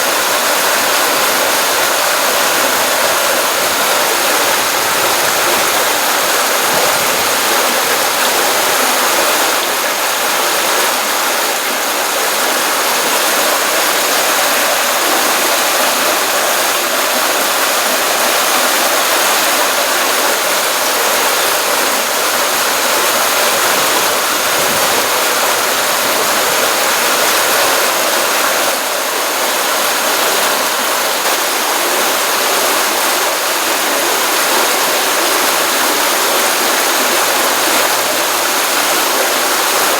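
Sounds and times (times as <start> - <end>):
stream water splashing: 0.0 - 39.9.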